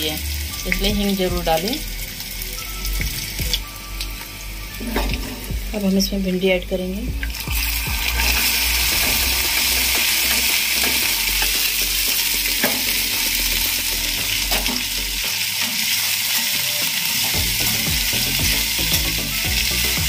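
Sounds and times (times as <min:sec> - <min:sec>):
okra sizzling in hot oil: 0:00.0 - 0:20.0.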